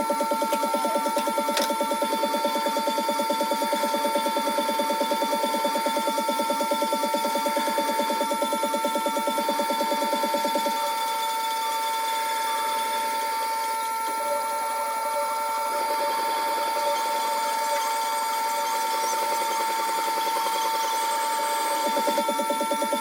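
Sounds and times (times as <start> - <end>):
wet grinder whining: 0.0 - 23.0.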